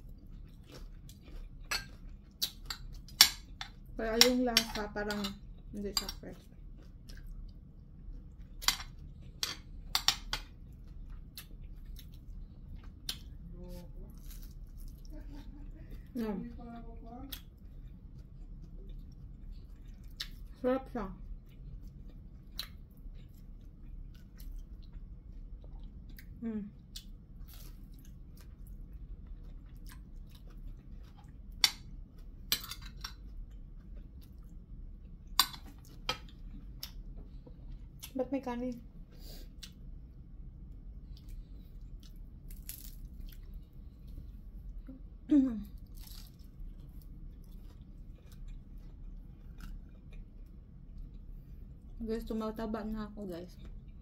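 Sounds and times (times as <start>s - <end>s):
person chewing crispy food: 0.0s - 4.0s, 5.4s - 20.6s, 21.2s - 38.2s, 39.0s - 44.8s, 45.7s - 52.0s.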